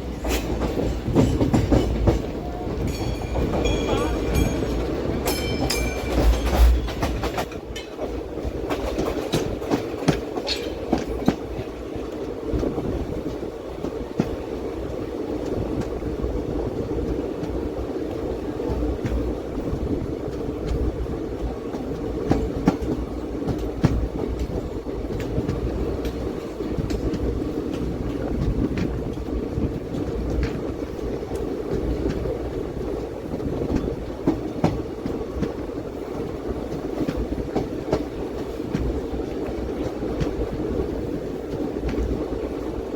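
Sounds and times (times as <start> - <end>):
train running rumble: 0.0 - 42.9
wheels clicking over rail joints: 0.0 - 42.9.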